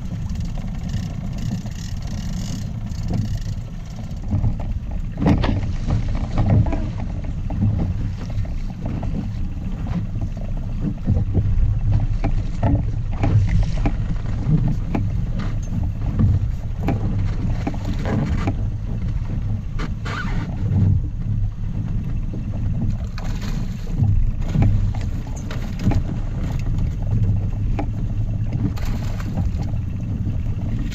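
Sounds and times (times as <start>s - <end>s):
water slapping against boat: 0.0s - 30.9s
wind buffeting microphone: 0.0s - 30.9s.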